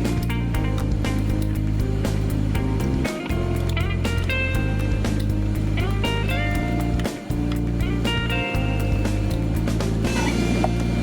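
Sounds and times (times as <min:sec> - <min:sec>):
steady bass line: 0:00.0 - 0:11.0.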